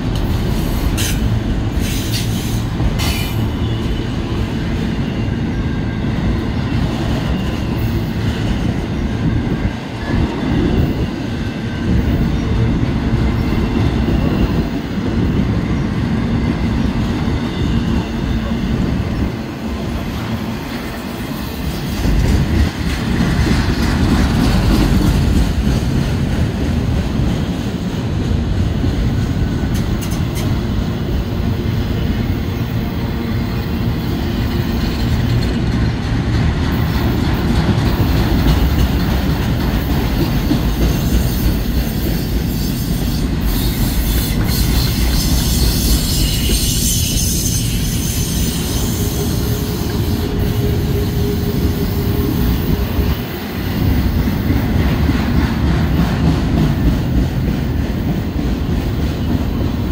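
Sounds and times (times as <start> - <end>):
freight train rolling past: 0.0 - 59.9
steel wheels rumbling on rails: 0.0 - 59.9.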